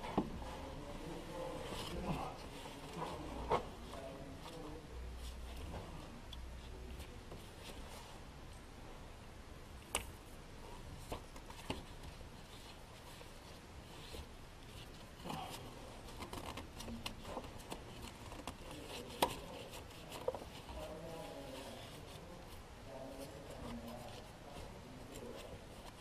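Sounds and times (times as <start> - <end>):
light rubbing and scraping: 0.0 - 8.2, 10.6 - 26.0.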